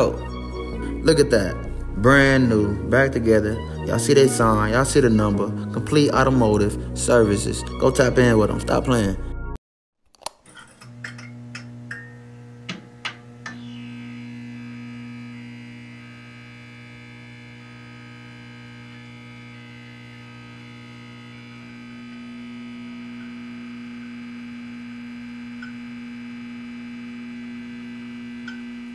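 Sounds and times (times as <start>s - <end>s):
neon sign buzzing: 0.0s - 9.0s, 10.8s - 28.9s.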